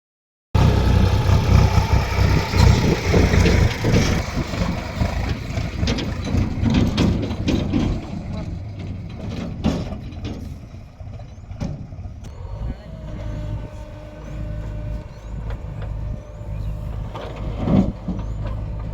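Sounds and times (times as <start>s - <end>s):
heavy diesel engine running: 0.6s - 18.9s.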